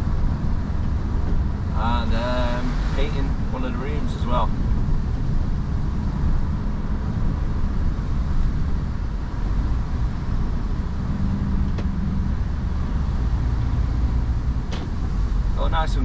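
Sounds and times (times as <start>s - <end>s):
lorry engine drone: 0.0s - 16.0s
tyres on wet road: 0.0s - 16.0s.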